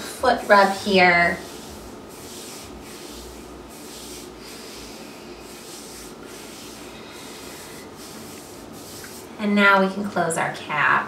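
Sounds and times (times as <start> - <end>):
hands rubbing skin: 0.4 - 9.3.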